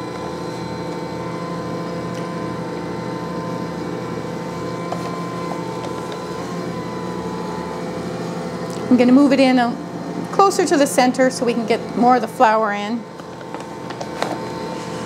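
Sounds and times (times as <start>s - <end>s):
stand mixer motor humming: 0.0s - 15.0s.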